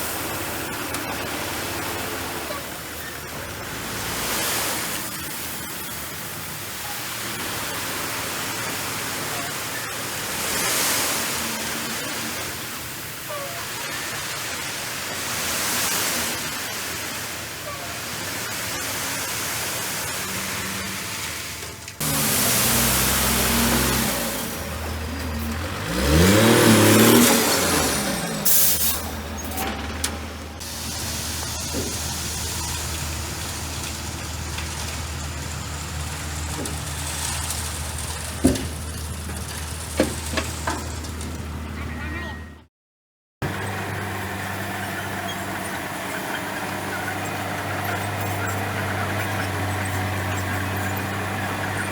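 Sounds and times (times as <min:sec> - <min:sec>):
bulldozer diesel engine running: 0:00.0 - 0:10.5, 0:11.3 - 0:42.7, 0:43.4 - 0:51.9.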